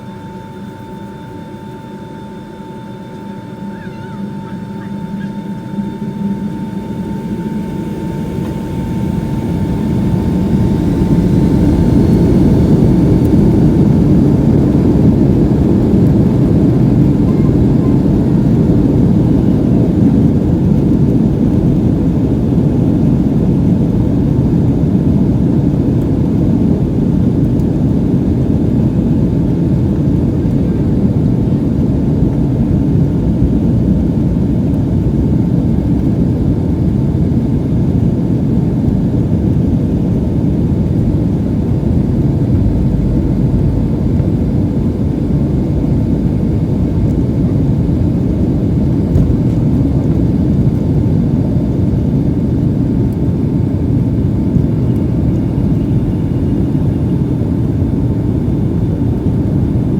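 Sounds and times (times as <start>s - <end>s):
faint engine whine: 0.0s - 59.9s
jet engine rumble inside cabin: 0.0s - 59.9s.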